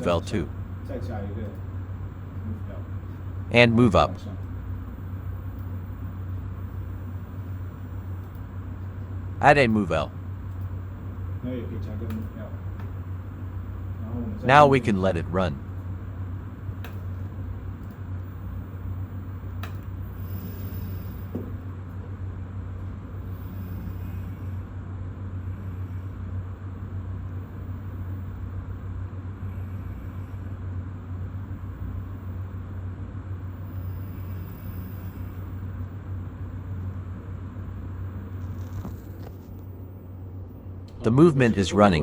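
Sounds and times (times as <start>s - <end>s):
faint high motor whines: 0.0s - 42.0s
robot motors humming: 0.0s - 42.0s.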